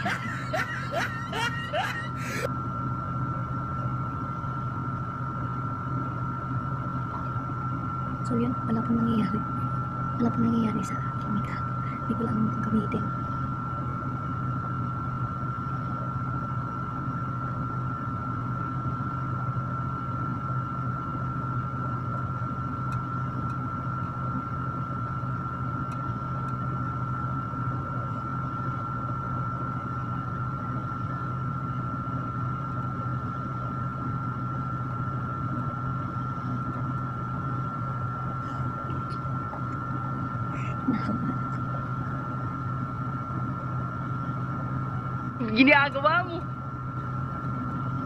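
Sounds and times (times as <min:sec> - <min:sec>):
electric fan humming: 0:00.0 - 0:48.0
thin high whine: 0:00.0 - 0:48.0.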